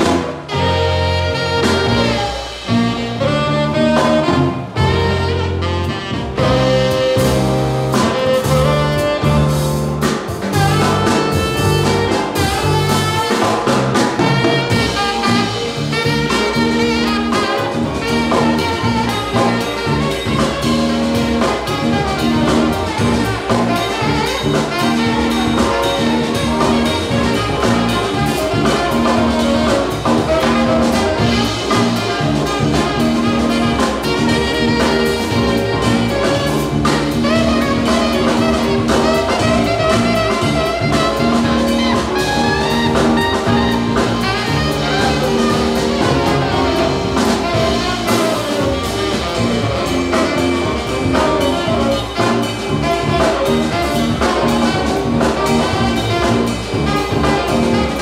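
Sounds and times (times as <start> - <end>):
bass guitar: 0.0 - 58.0
drum kit: 0.0 - 58.0
electric guitar: 0.0 - 58.0
keyboard: 0.0 - 58.0
saxophone melody: 0.0 - 58.0.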